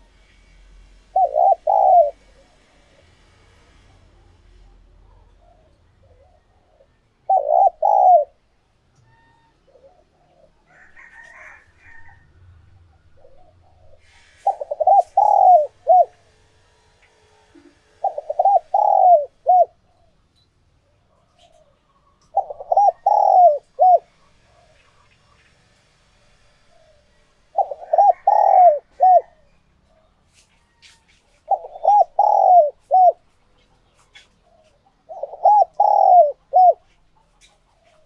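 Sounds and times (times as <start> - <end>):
dove cooing: 0.0 - 4.0, 4.6 - 8.5, 9.1 - 16.4, 17.5 - 20.2, 21.0 - 25.5, 26.6 - 30.1, 30.8 - 38.0.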